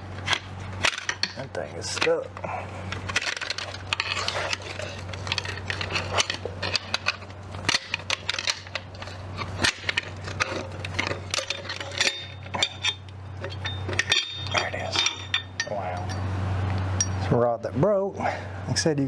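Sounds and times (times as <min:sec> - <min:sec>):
metal tool clinking and scraping: 0:00.0 - 0:17.4
steady low hum: 0:00.0 - 0:19.0.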